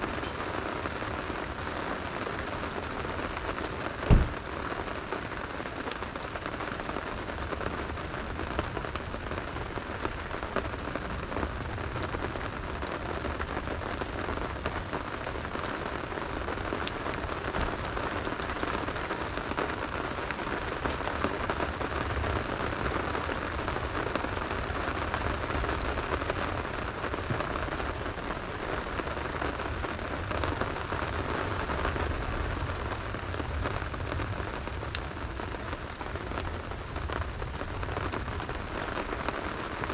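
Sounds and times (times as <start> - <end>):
campfire crackles: 0.0 - 39.9
rain pattering: 0.0 - 39.9.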